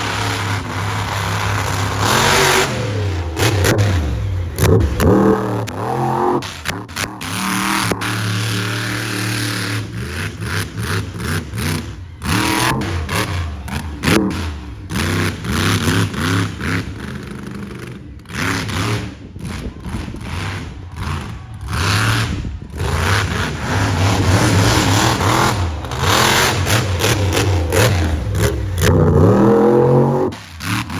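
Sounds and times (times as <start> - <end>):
monster truck engine revving: 0.0 - 30.9.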